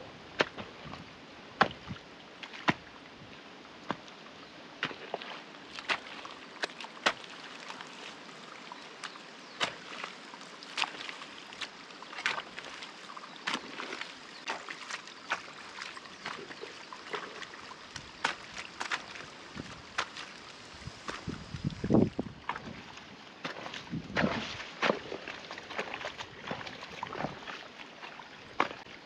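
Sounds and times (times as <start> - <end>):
water trickling and sloshing: 0.0 - 29.0
sharp clicks and splashes: 4.8 - 29.0.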